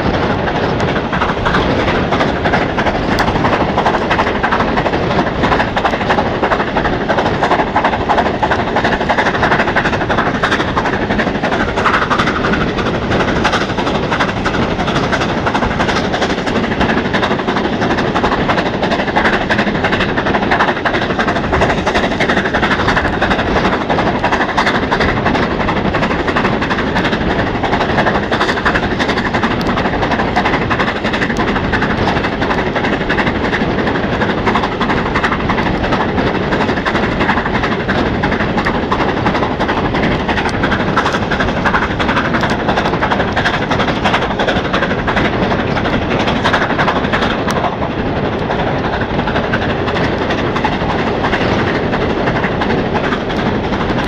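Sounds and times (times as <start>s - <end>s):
train wind and wheel noise: 0.0s - 54.0s.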